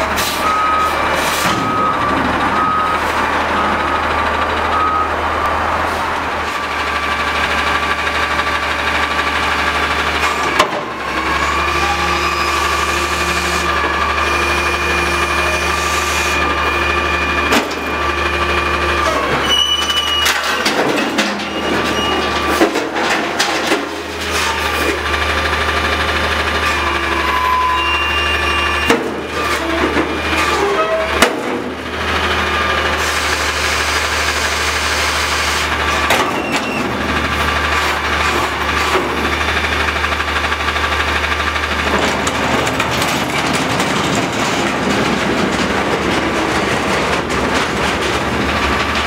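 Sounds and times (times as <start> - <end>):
garbage truck engine running: 0.0 - 49.0.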